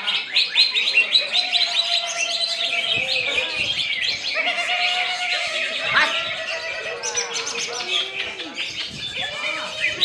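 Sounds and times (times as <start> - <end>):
bird singing chirps and trills: 0.0 - 10.0.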